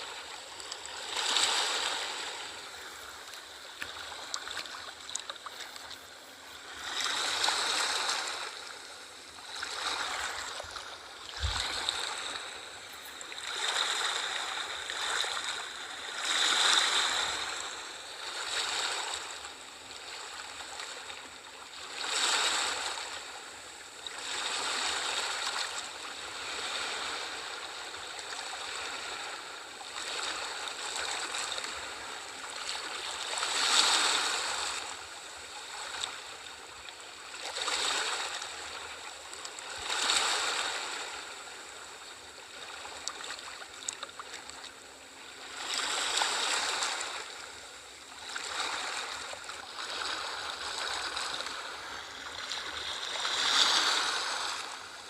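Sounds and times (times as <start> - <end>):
sea waves breaking: 0.0 - 19.5, 28.2 - 36.4, 37.3 - 44.6, 45.2 - 55.0
steady wash of water: 0.0 - 55.0.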